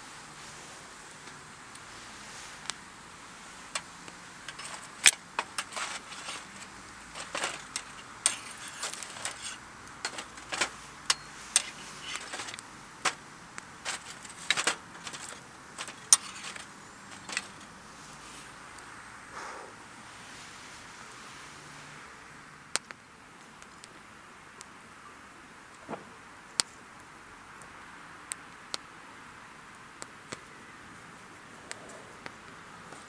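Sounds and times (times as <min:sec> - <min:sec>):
campfire crackling: 0:00.0 - 0:33.0
faint steady hiss: 0:00.0 - 0:33.0.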